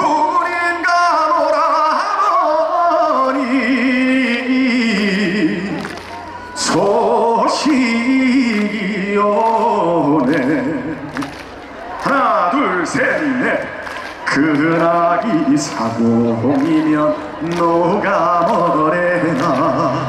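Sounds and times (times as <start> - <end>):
man singing into microphone: 0.0 - 11.4, 12.0 - 20.0.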